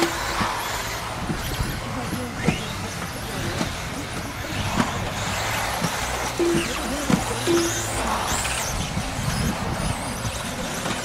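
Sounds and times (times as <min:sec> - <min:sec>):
small motors and tyres din: 0:00.0 - 0:11.0
toy cars knocking on track: 0:00.0 - 0:11.0.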